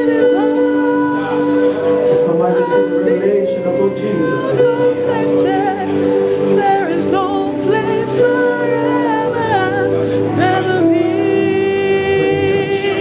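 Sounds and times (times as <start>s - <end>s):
person singing: 0.0s - 13.0s
sustained keyboard chords: 0.0s - 13.0s.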